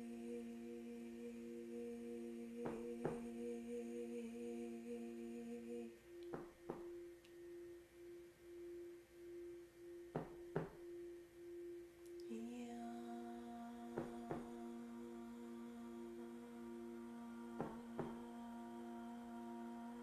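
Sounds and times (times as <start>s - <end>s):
sustained ringing tones: 0.0s - 20.0s.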